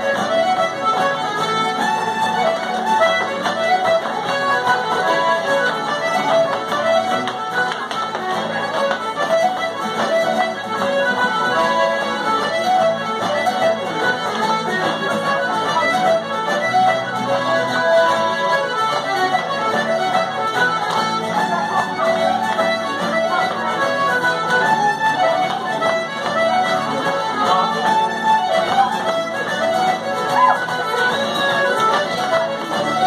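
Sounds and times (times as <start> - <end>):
traditional dance music: 0.0 - 33.0.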